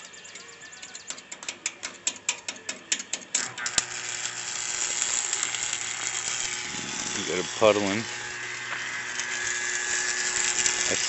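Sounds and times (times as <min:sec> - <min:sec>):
welding arc ticking and hissing: 0:00.0 - 0:11.0.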